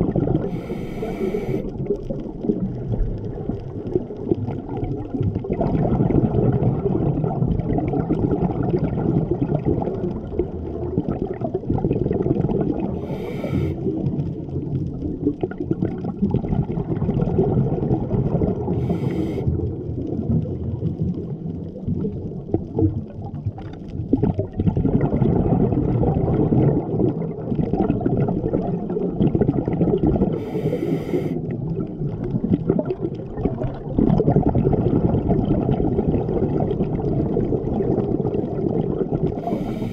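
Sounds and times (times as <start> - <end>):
underwater breathing bubbles: 0.0 - 39.9.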